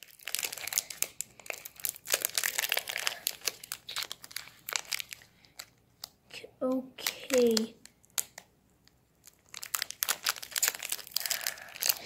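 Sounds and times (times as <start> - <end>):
foil wrapper crinkling: 0.0 - 6.2, 7.0 - 12.0.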